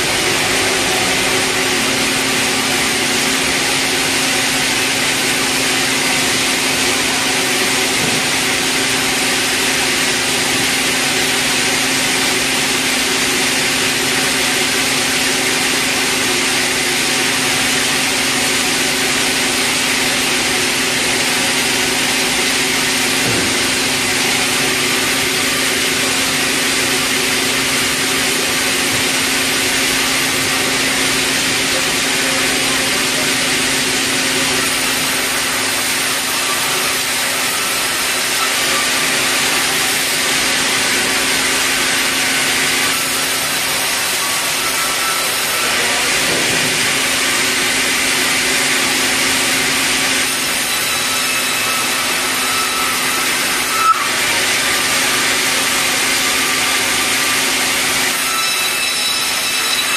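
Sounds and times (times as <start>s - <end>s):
band saw humming and hissing: 0.0s - 59.9s.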